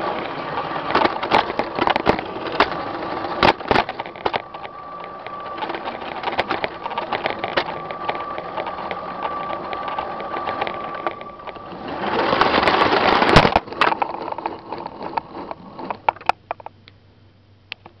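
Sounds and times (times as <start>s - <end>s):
small electric motor whining: 0.0s - 16.1s
rushing clatter: 0.0s - 16.2s
toy train wheels clicking on track: 0.0s - 16.6s.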